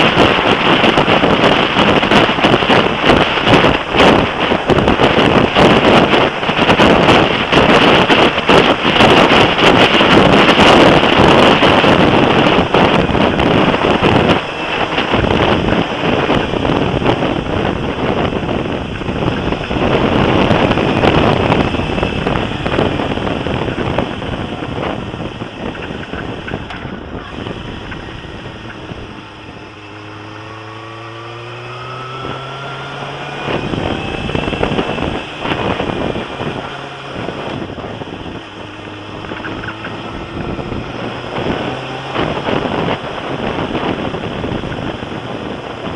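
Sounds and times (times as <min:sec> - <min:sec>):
motorcycle engine: 0:00.0 - 0:45.9
wind buffeting a camera: 0:00.0 - 0:45.9.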